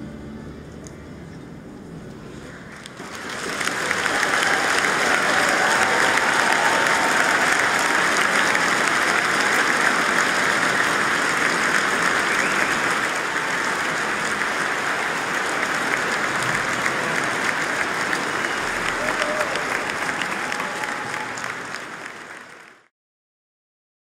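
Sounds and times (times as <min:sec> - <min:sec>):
large crowd applauding: 0:02.7 - 0:22.9.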